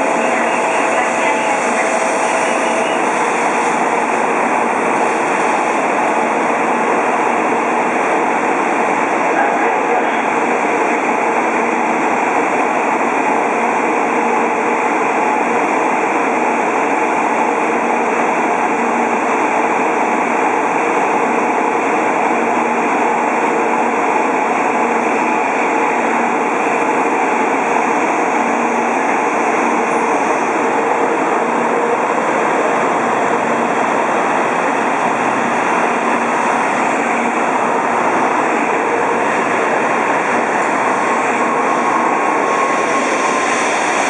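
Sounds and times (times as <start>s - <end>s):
train rumbling past: 0.0s - 44.0s.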